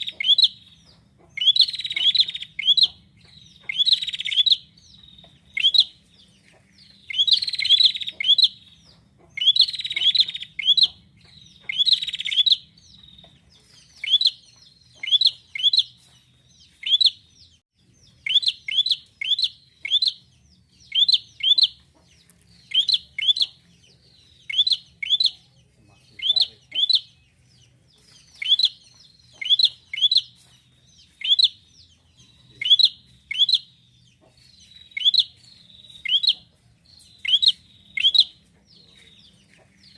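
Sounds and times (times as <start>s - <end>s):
bird high chirps: 0.0s - 39.9s.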